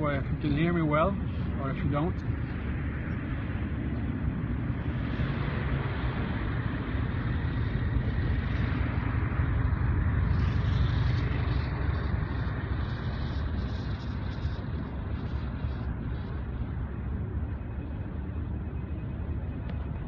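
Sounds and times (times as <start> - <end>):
low rumble of racing engines: 0.0 - 20.0.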